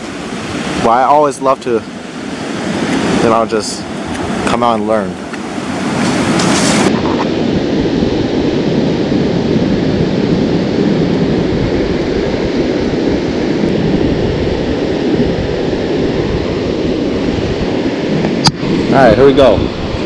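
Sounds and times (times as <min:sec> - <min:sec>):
surf washing onto beach: 0:00.0 - 0:20.0
wind on microphone: 0:00.0 - 0:20.0.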